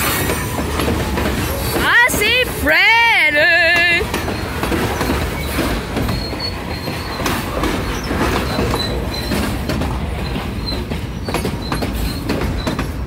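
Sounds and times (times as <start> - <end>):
train wheels rumbling on rails: 0.0 - 13.0
wheels clacking over rail joints: 0.0 - 13.0.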